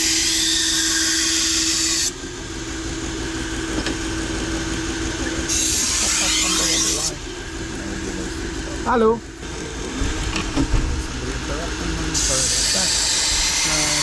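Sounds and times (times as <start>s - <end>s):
belt grinder motor hum: 0.0s - 10.6s, 11.3s - 14.0s.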